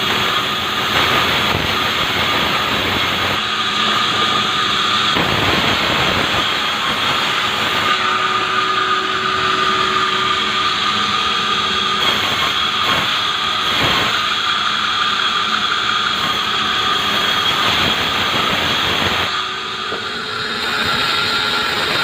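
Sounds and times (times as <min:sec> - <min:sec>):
saw blade cutting log: 0:00.0 - 0:22.0.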